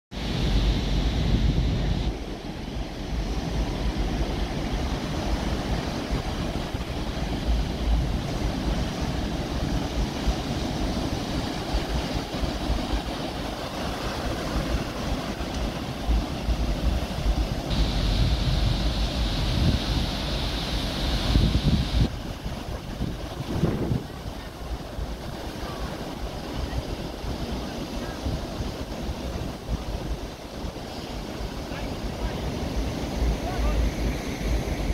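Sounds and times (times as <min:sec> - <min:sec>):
wind buffeting the microphone: 0:00.1 - 0:34.9
ocean surf breaking on a beach: 0:00.2 - 0:34.9.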